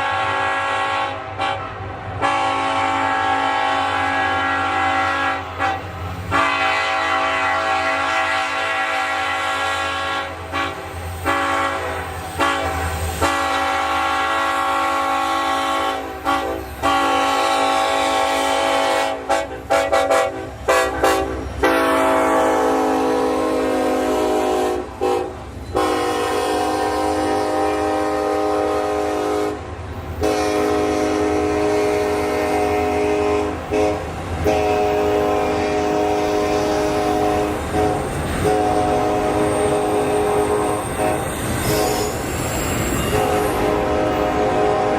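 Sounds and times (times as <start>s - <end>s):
locomotive air horn blasts: 0.0s - 42.2s, 43.0s - 44.9s.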